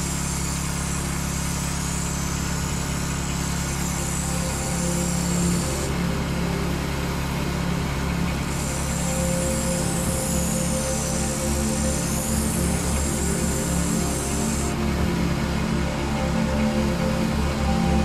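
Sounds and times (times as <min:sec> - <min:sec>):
generator engine running: 0:00.0 - 0:18.0.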